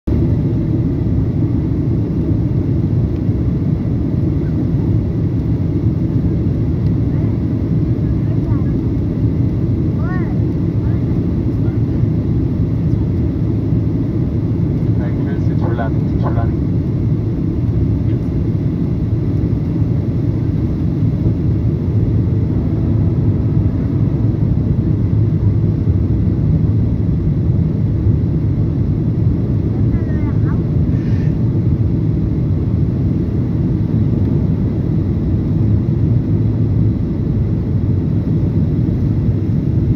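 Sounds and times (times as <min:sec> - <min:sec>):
airplane cabin engine rumble: 0:00.1 - 0:39.9.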